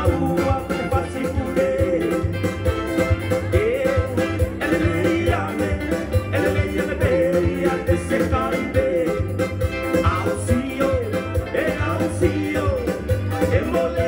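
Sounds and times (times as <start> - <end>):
man singing through pa: 0.0 - 2.5, 3.4 - 14.0
acoustic guitar: 0.0 - 14.0.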